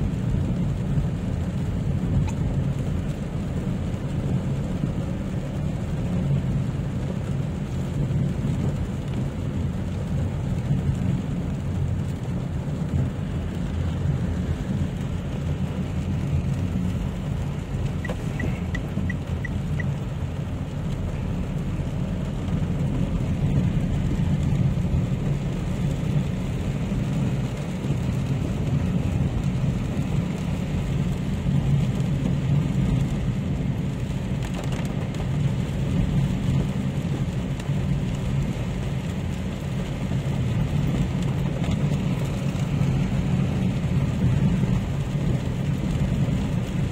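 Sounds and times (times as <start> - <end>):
car driving on wet road: 0.0 - 46.9
rain falling on car: 0.0 - 46.9.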